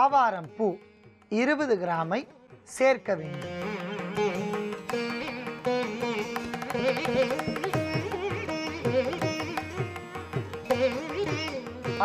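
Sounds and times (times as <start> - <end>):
string melody with sliding notes: 0.0 - 12.0.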